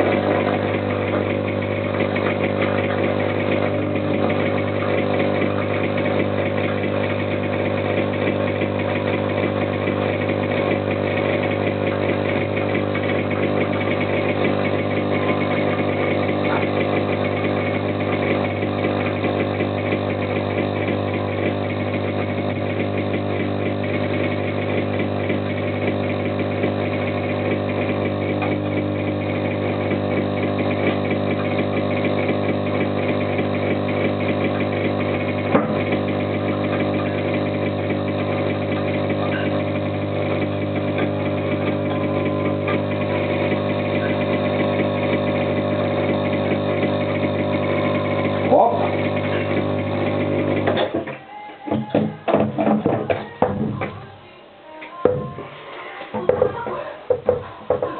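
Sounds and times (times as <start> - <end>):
electric air compressor humming: 0.0 - 54.2.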